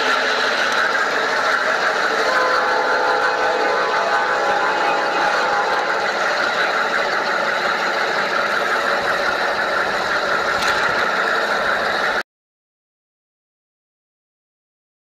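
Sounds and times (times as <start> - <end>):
model train rolling on track: 0.0 - 12.2.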